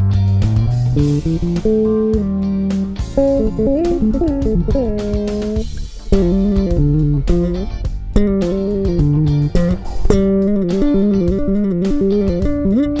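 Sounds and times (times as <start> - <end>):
bass guitar playing chords: 0.0 - 13.0.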